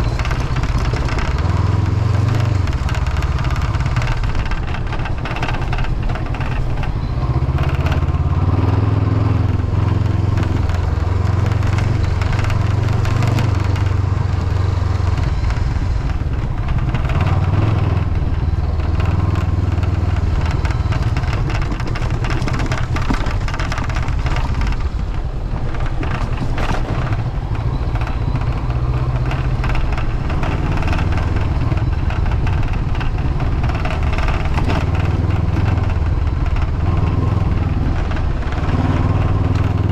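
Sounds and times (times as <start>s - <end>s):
loose windshield rattling: 0.0s - 39.9s
motorcycle engine running: 0.0s - 39.9s
road surface crunching: 0.0s - 39.9s.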